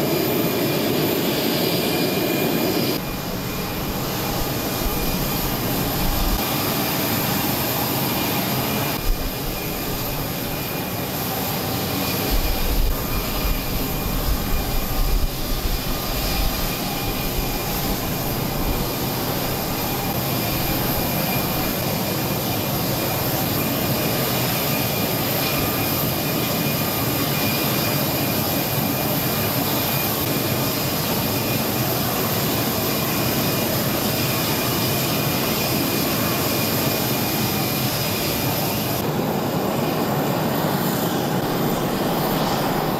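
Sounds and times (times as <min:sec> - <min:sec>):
turboprop engines running: 0:00.0 - 0:42.9.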